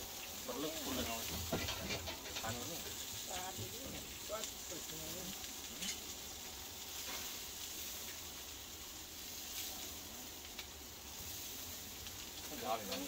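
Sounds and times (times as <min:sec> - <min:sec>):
faint fire crackles: 0:00.0 - 0:13.0
food sizzling on barbecue: 0:00.0 - 0:13.0.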